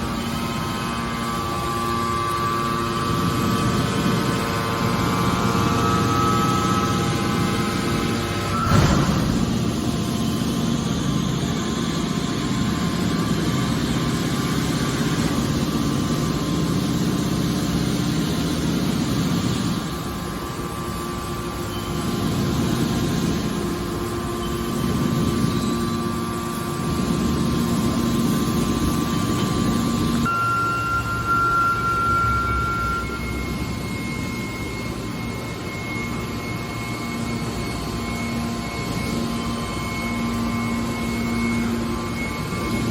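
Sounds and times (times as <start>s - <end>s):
hydraulic machine hum: 0.0s - 42.9s.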